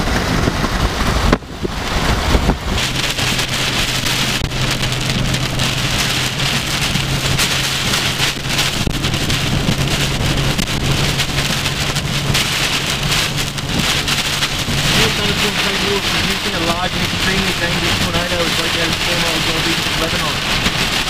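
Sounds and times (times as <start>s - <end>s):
heavy rain on car roof: 0.0s - 21.0s
low car hum: 0.0s - 21.0s.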